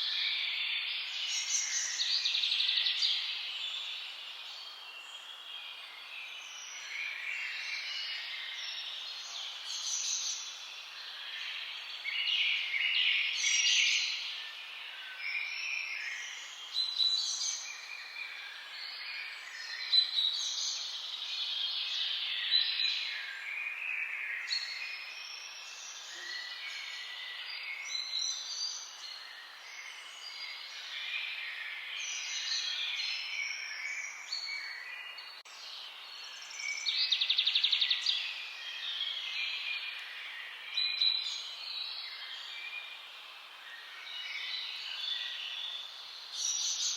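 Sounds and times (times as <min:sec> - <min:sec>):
songbirds singing and chirping: 0:00.0 - 0:46.9.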